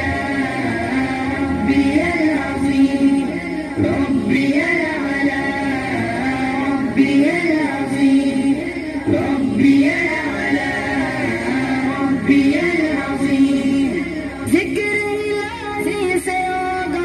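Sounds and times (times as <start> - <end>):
women singing devotional song: 0.0 - 17.0.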